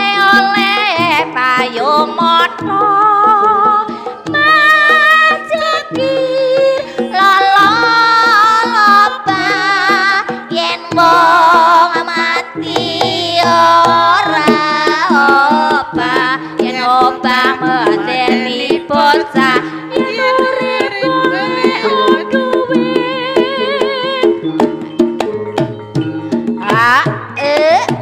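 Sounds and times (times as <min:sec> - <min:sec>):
wavering lead melody: 0:00.0 - 0:27.7
gamelan music: 0:00.0 - 0:28.0
hand drum strokes: 0:00.0 - 0:28.0.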